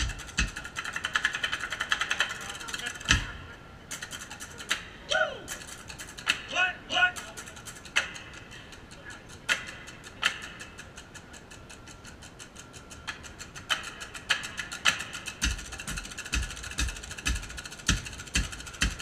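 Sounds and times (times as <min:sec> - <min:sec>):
drumsticks clicking: 0:00.0 - 0:06.5, 0:07.1 - 0:19.0.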